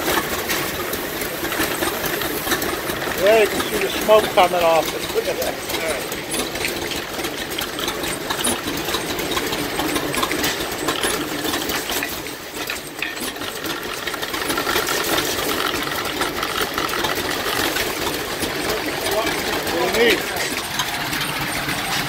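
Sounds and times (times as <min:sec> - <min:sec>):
wood lathe clattering: 0:00.0 - 0:22.0.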